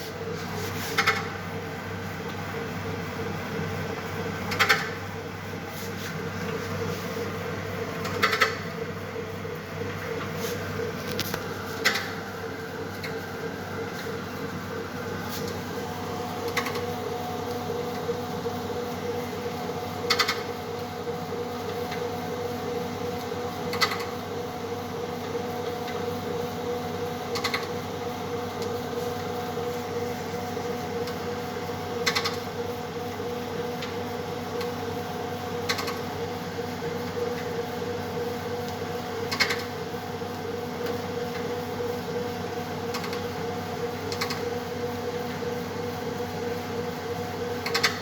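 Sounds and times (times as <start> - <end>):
dough mixer motor hum: 0.0 - 48.0.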